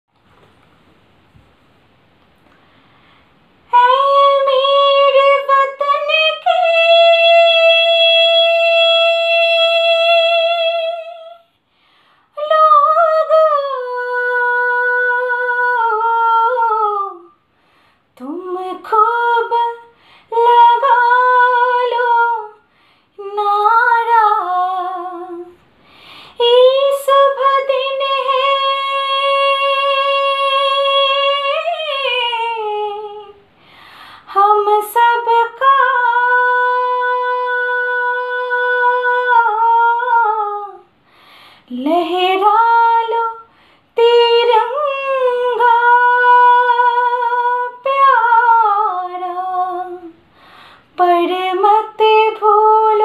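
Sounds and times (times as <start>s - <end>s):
woman singing unaccompanied: 3.7s - 11.6s, 12.4s - 17.4s, 18.2s - 25.6s, 26.3s - 33.5s, 34.2s - 40.9s, 41.7s - 50.3s, 50.9s - 53.0s.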